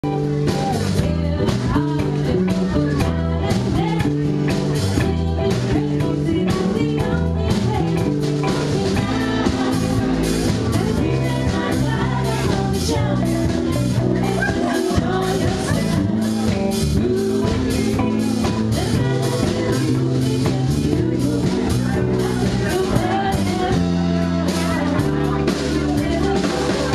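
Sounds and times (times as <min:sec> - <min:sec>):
drum kit steady beat: 0:00.0 - 0:26.9
electric guitars: 0:00.0 - 0:26.9
woman singing into a microphone: 0:00.1 - 0:26.9.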